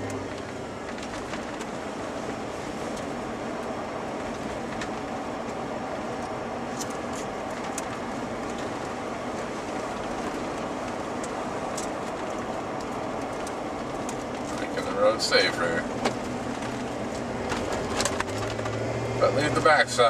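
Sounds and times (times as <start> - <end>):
truck tyre noise on wet road: 0.0 - 20.0.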